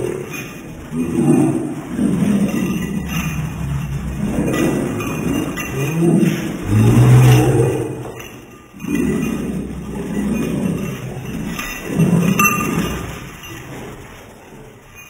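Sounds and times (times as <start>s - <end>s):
slowed dogs growling: 0.0s - 15.0s.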